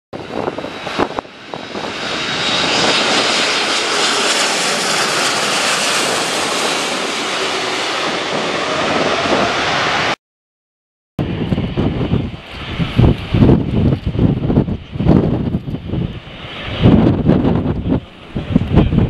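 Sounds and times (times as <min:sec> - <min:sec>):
jet engines passing overhead: 0:00.2 - 0:10.2, 0:11.2 - 0:19.0.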